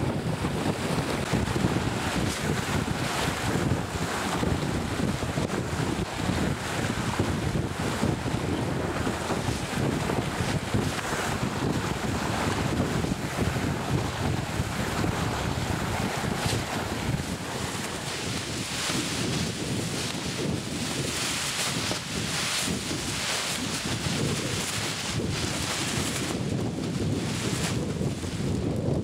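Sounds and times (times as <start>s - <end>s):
water rushing along hull: 0.0s - 29.0s
wind buffeting microphone: 0.0s - 29.0s.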